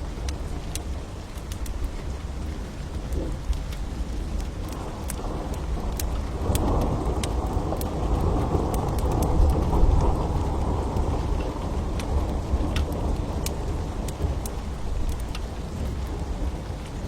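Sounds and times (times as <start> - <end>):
low rumble of thunder: 0.0 - 17.0
steady rain: 0.0 - 17.0
wood fire crackling: 0.0 - 17.0.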